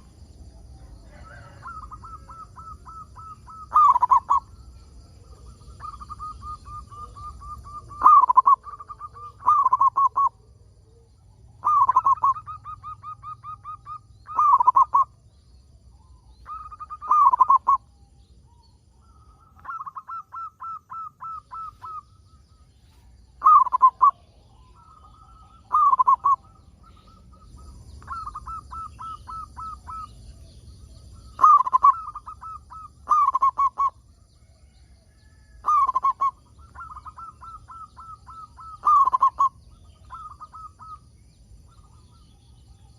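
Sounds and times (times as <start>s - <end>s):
dove cooing: 0.0s - 15.3s, 16.0s - 42.9s
faint low hum: 0.0s - 42.9s.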